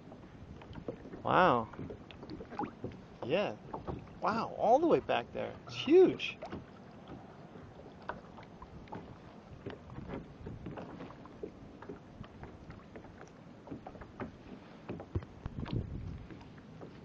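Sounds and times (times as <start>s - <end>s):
water splashing against kayak: 0.0s - 17.0s.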